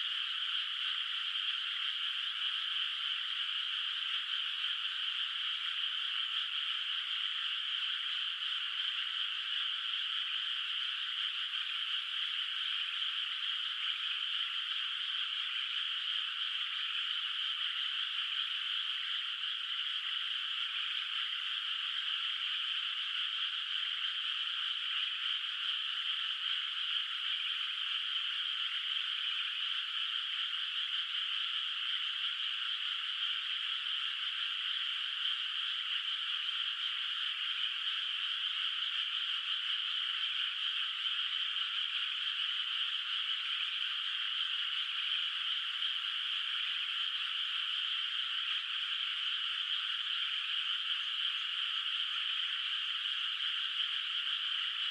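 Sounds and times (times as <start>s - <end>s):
chorus of frogs calling: 0.0s - 54.9s.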